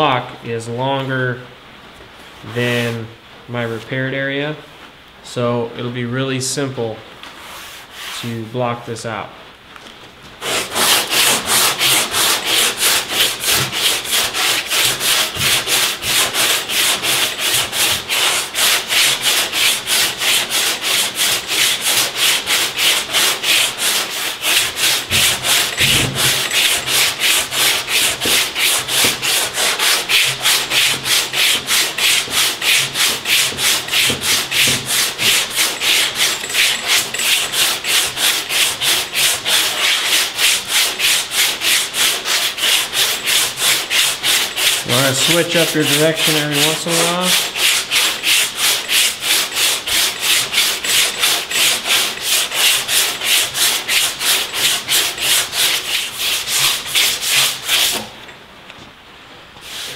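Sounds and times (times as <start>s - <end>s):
sandpaper sanding back and forth: 7.4s - 8.5s, 10.4s - 58.1s, 59.6s - 59.9s.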